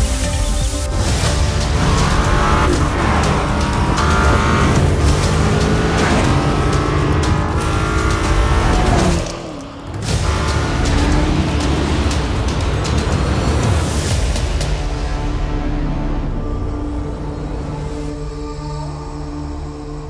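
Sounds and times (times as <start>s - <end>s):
background music: 0.0s - 20.0s
car engine revving: 1.1s - 18.4s.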